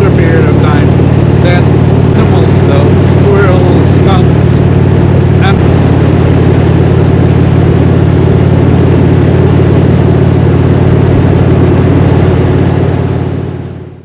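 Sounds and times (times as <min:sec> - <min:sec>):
motorcycle engine and exhaust: 0:00.0 - 0:14.0.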